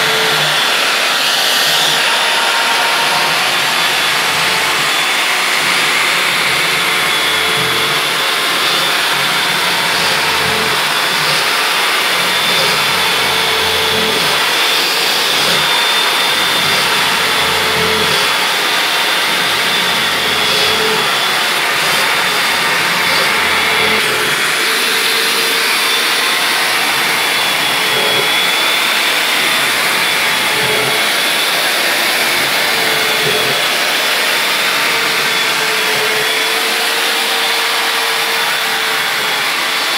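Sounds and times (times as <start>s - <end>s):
cordless drill countersinking metal: 0.0s - 39.9s
loud motor whine: 0.0s - 39.9s.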